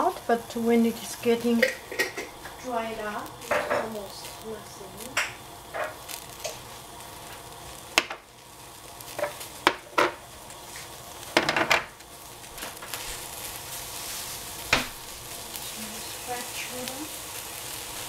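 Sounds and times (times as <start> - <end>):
greens sizzling in a pot: 0.0 - 18.0.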